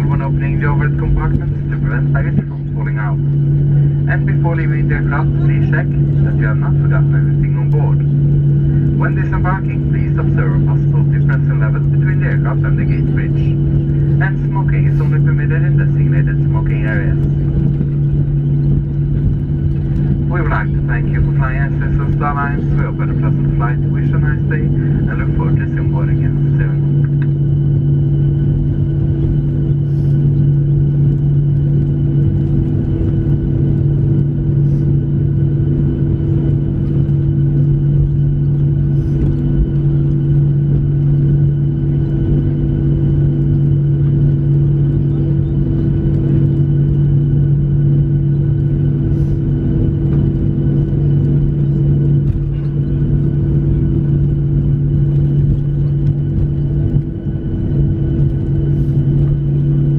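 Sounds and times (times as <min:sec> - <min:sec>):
cabin air hum: 0:00.0 - 0:59.9
jet engines idling: 0:00.0 - 0:59.9.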